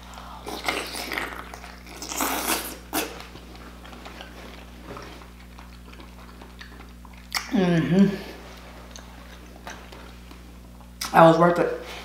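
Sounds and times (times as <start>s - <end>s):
person chewing food: 0.0s - 11.1s.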